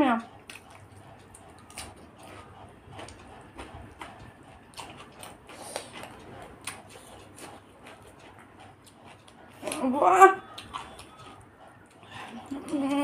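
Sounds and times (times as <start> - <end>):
chewing with mouth clicks: 0.0 - 13.0.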